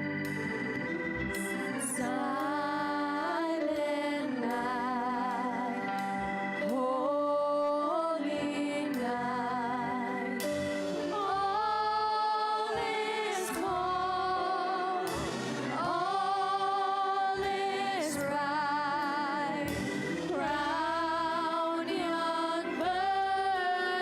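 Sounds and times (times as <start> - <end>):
sustained keyboard chords: 0.0 - 24.0
person singing with vibrato: 1.3 - 24.0.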